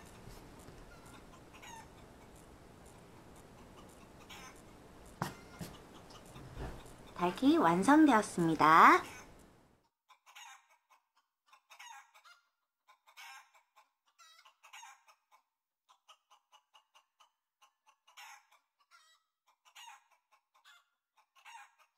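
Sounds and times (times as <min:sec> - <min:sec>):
faint chicken clucking: 0:00.0 - 0:07.9, 0:08.5 - 0:21.9.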